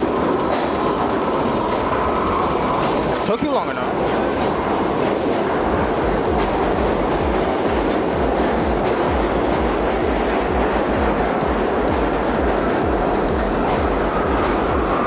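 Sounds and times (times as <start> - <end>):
subway train wheels clacking: 0.0 - 15.0.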